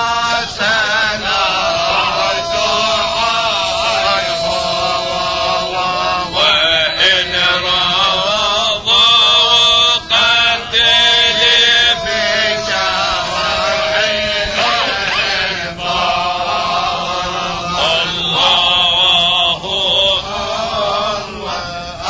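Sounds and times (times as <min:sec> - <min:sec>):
men chanting: 0:00.0 - 0:22.0.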